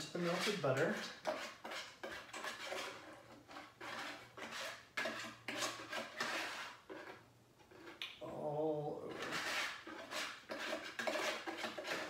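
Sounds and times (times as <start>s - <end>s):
utensil scraping mixing bowl: 0.0s - 8.0s, 8.9s - 12.0s.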